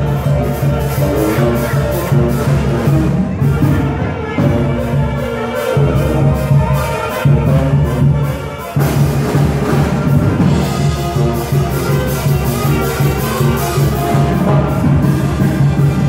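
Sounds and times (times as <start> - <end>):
brass horns: 0.0 - 16.0.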